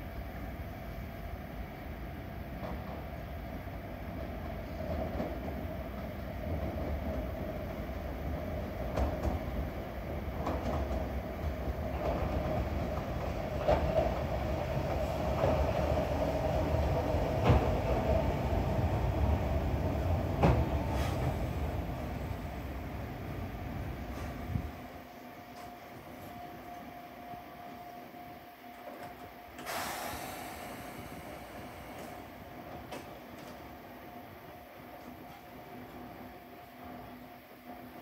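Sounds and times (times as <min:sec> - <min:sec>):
electric train arriving: 0:00.0 - 0:38.0.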